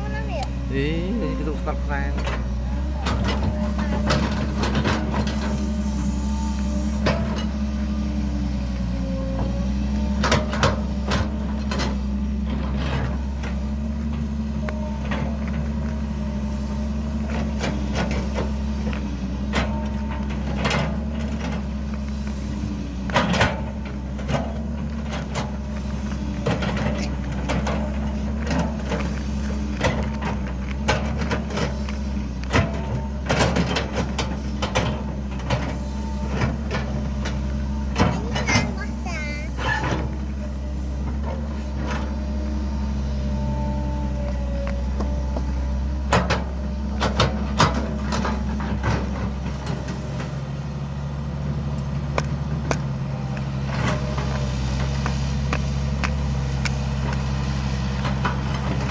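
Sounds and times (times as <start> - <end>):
excavator engine running: 0.0 - 58.9.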